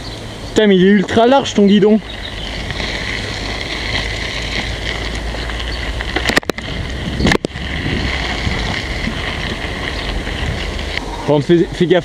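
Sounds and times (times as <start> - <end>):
tyres rolling on dirt path: 0.0 - 12.0
wind buffeting microphone: 0.0 - 12.0.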